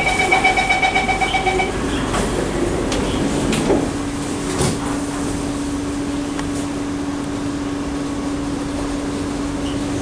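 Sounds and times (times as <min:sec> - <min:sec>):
train cabin hum: 0:00.0 - 0:10.0.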